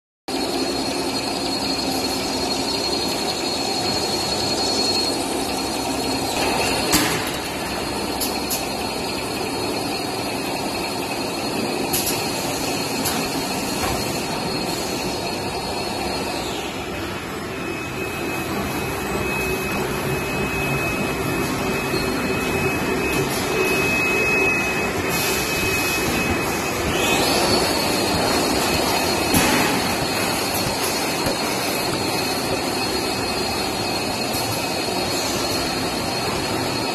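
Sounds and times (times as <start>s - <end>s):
machinery whirring and humming: 0.3s - 36.9s
thin high whine: 0.3s - 36.9s.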